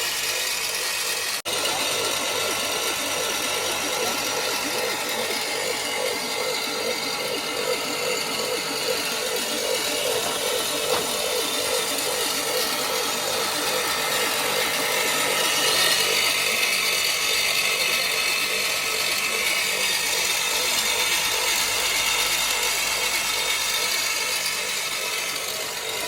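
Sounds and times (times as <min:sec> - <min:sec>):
concrete mixer motor pulsing: 0:00.0 - 0:26.0.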